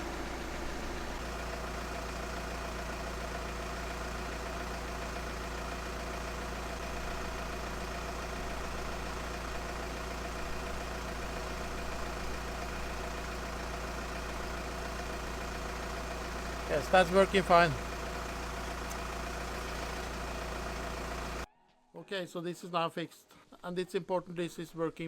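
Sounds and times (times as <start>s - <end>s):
van engine idling: 0.0s - 21.5s.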